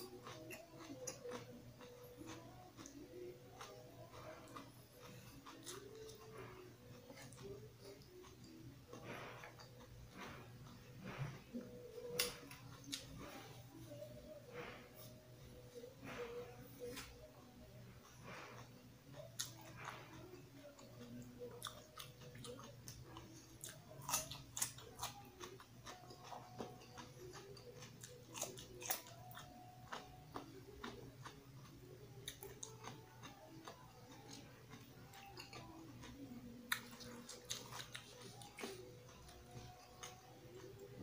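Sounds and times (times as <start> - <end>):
quiet chewing: 0.0 - 41.0.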